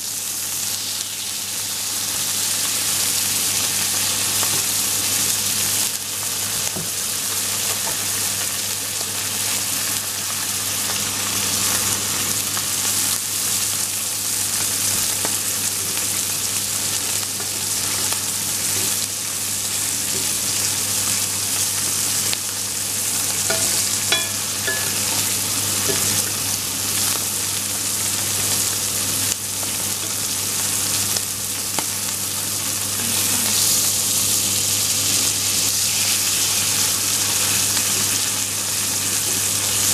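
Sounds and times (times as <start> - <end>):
steak sizzling in butter: 0.0 - 39.9.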